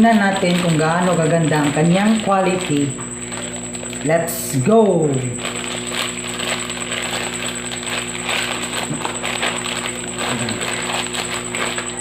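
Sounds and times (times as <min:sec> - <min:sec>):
plastic packaging rustling: 0:00.0 - 0:04.1, 0:05.1 - 0:12.0
faint high whine: 0:00.0 - 0:12.0
low electrical hum: 0:00.0 - 0:12.0.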